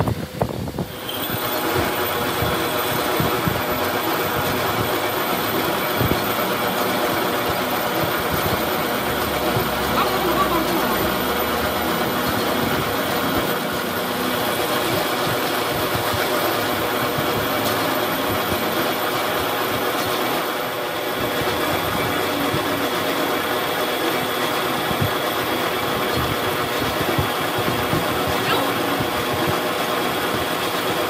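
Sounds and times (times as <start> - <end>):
metal lathe cutting steel: 0.9 - 31.0.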